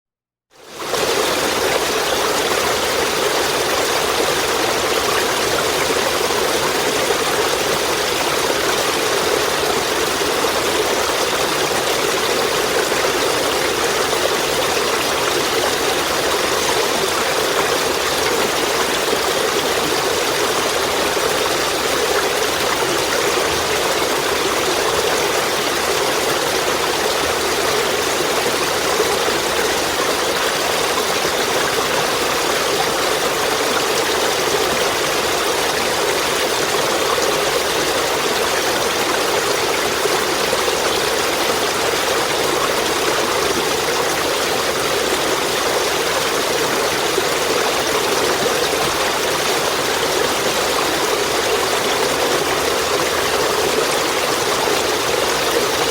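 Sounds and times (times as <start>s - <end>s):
stream of running water: 0.5s - 55.9s.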